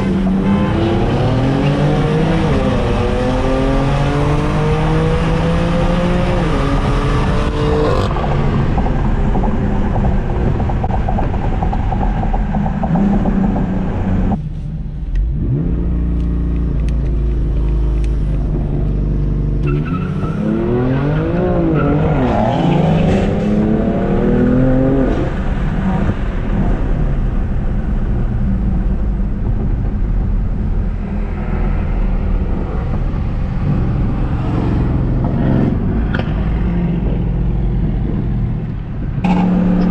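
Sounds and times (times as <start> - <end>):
car engine revving through gears: 0.0 - 14.4, 15.2 - 26.2, 30.8 - 39.9.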